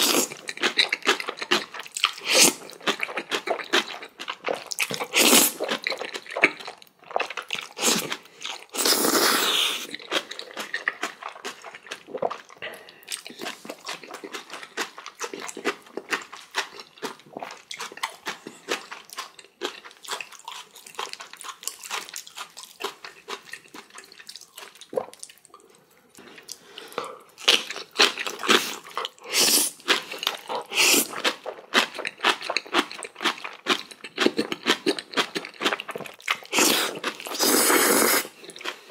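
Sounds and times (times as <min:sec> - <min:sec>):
wet chewing and crunching: 0:00.0 - 0:38.9.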